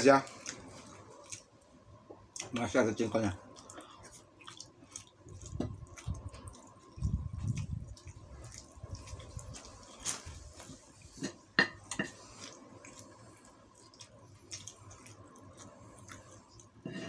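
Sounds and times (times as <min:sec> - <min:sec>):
quiet chewing: 0:00.1 - 0:17.0.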